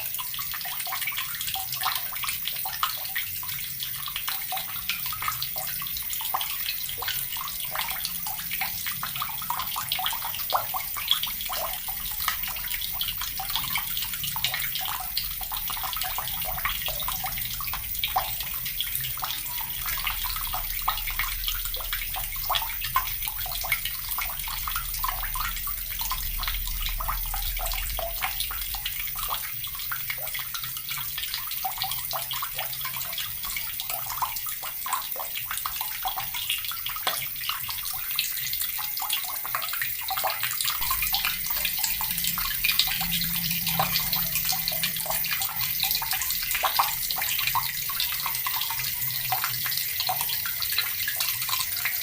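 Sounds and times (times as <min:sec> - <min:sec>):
water running from a tap: 0:00.0 - 0:52.0.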